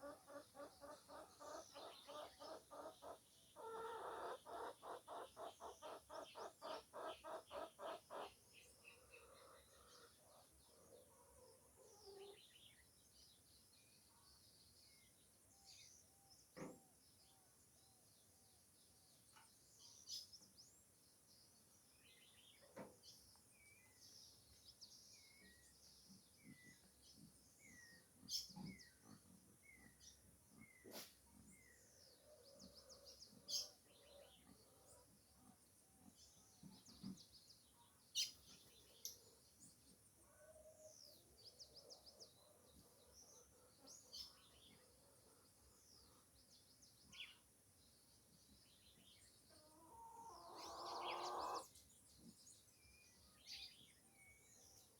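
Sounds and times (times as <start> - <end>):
faint birdsong: 0.0 - 54.9.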